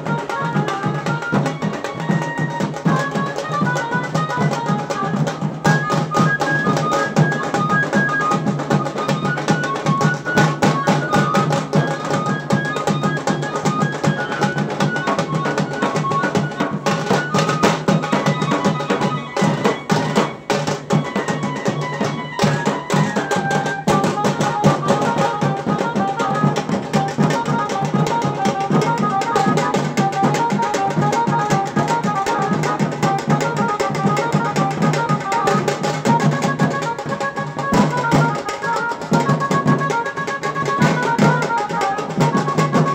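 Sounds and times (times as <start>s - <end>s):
fast drumming: 0.0s - 42.9s
stepped melody line: 0.1s - 42.9s.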